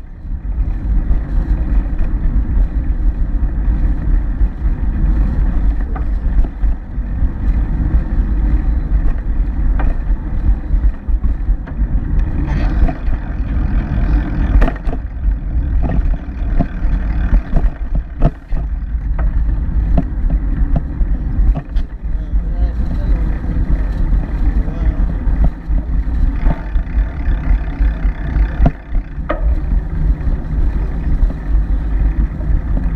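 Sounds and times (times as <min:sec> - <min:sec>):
bicycle riding on concrete: 0:00.0 - 0:32.9
bike knocks and rattles: 0:00.0 - 0:32.9
low wind rumble: 0:00.0 - 0:32.9.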